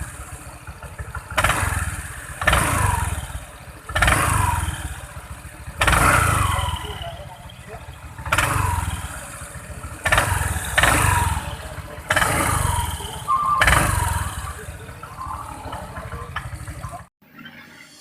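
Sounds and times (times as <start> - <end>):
scooter engine revving: 0.0 - 17.1.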